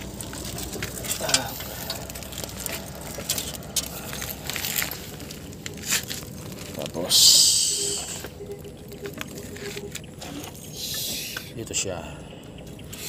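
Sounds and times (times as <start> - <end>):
cable crackling and scraping: 0.0 - 11.9.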